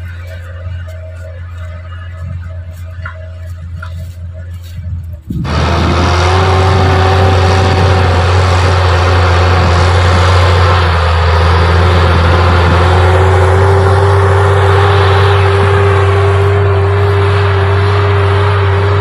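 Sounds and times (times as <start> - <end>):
constant whine: 0.0 - 19.0
tractor engine drone: 0.0 - 19.0.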